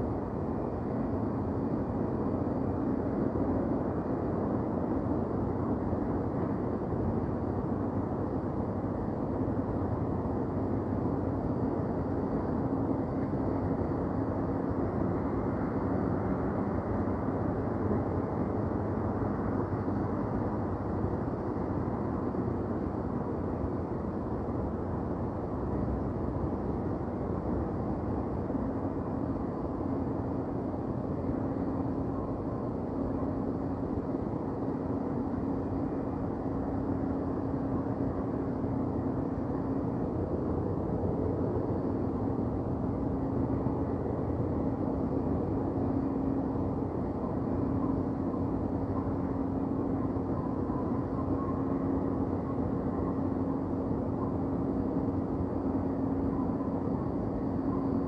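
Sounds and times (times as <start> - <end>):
faint humming tone: 0.0 - 58.0
low city rumble: 0.0 - 58.0.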